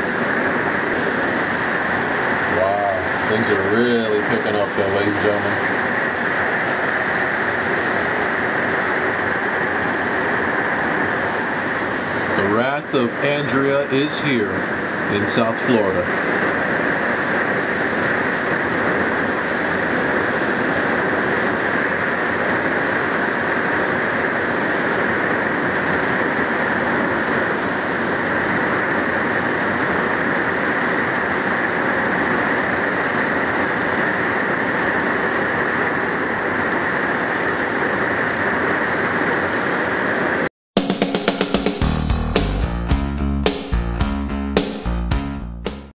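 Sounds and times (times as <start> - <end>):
heavy rain pouring: 0.0 - 40.5.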